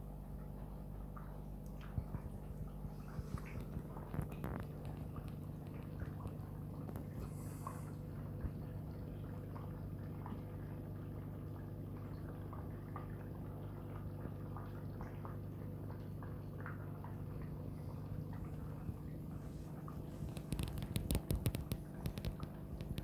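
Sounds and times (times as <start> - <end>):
water dripping and trickling: 0.0 - 7.2, 8.0 - 23.0
low pump hum: 0.0 - 23.0.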